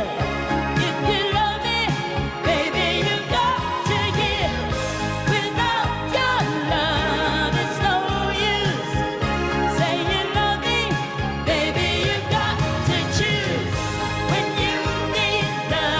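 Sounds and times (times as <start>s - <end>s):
band accompaniment: 0.0s - 15.9s
woman singing pop song: 0.0s - 15.9s.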